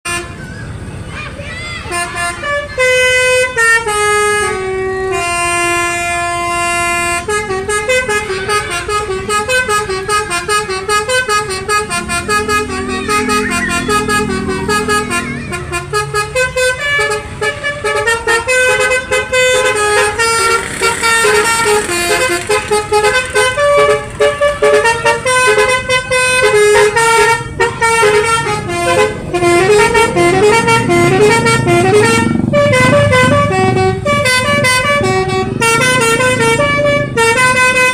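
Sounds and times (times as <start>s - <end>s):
musical vehicle horn tune: 0.0s - 0.5s, 1.8s - 37.9s.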